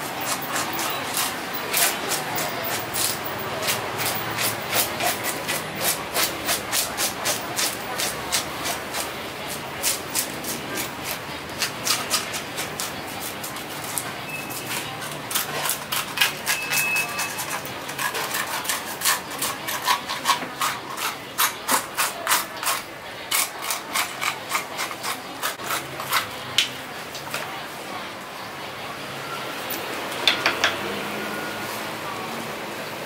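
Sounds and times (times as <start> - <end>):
fish scaler scraping scales: 0.0 - 26.4.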